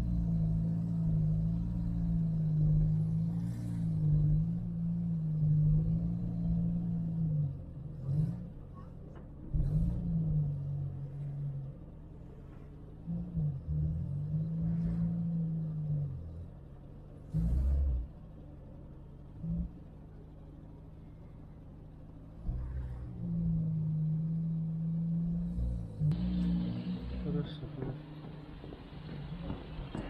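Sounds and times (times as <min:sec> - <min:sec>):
car engine from inside cabin: 0:00.0 - 0:30.0.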